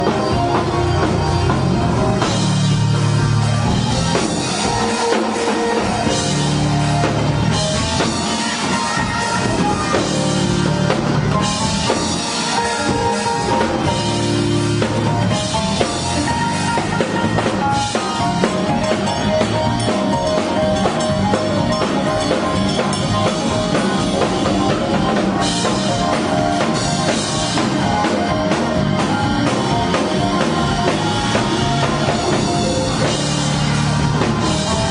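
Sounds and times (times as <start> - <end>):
drum kit playing: 0.0 - 34.9
guitar: 0.0 - 34.9
keyboards: 0.0 - 34.9.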